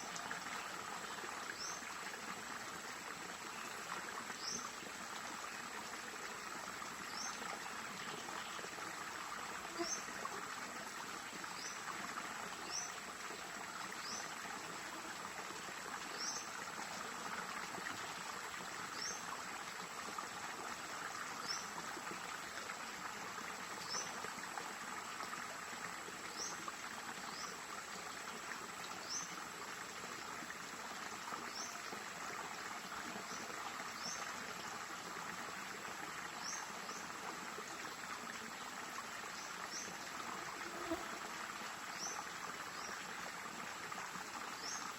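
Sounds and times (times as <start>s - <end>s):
stream water flowing: 0.0s - 44.9s.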